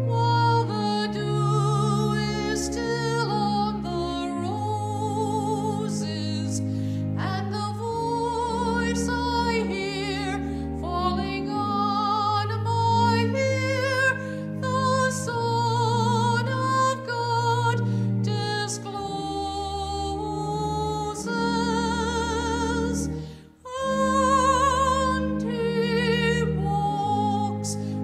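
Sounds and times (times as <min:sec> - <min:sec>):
church organ playing hymn: 0:00.0 - 0:28.0.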